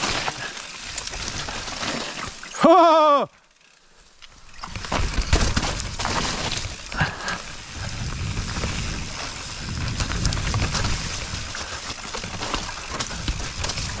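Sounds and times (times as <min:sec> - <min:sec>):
bike rattling and clicking: 0:00.0 - 0:14.0
bike tyres on mud: 0:00.0 - 0:14.0.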